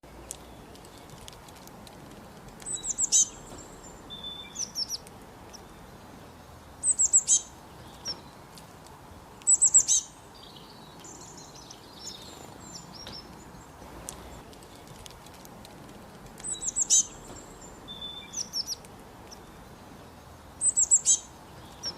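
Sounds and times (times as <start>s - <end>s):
soft scattered bird chirps: 0.0s - 21.9s
songbirds singing: 0.0s - 21.9s
steady background hiss: 0.0s - 21.9s.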